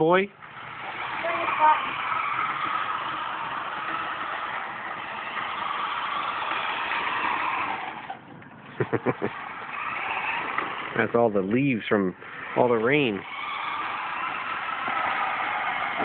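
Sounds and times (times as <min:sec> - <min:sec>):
toy car motor whirring: 0:00.4 - 0:16.0.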